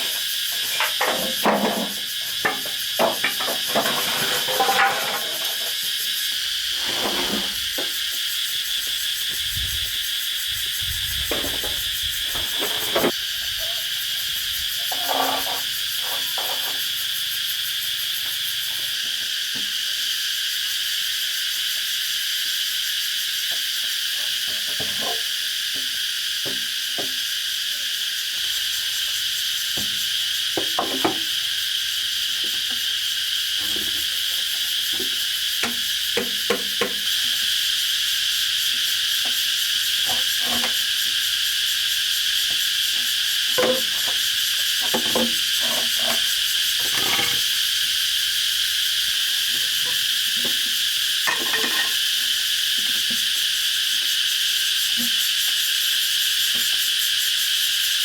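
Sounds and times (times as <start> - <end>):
shrill insect chorus: 0.0 - 58.0.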